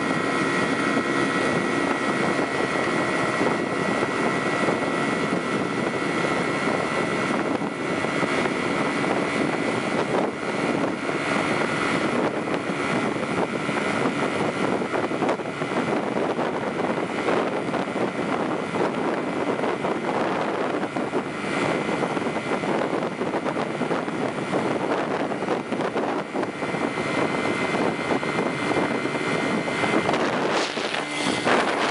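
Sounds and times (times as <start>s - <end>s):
moving vehicle running noise: 0.0s - 31.9s.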